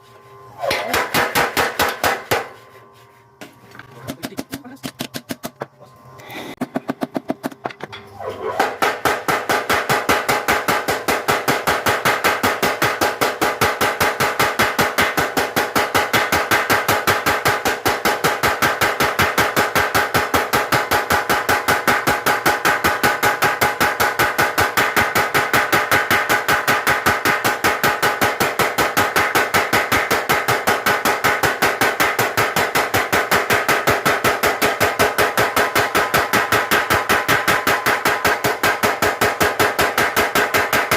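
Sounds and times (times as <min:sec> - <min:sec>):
power hammer pounding hot steel: 0:00.7 - 0:02.6, 0:08.5 - 0:40.9.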